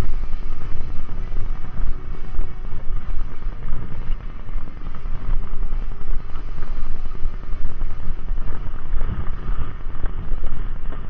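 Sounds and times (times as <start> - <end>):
uneven low rumble: 0.0 - 11.0
wind buffeting microphone: 0.0 - 11.0.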